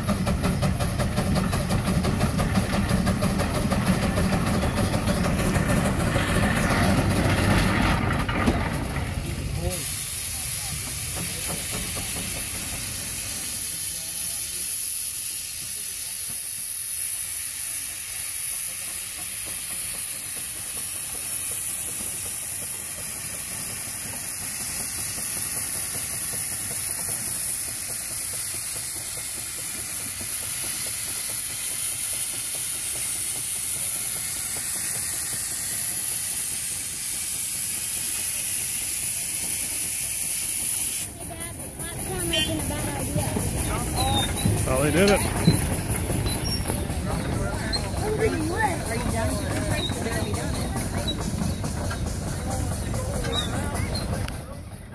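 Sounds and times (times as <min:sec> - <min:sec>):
steam engine hissing: 0:00.0 - 0:54.9.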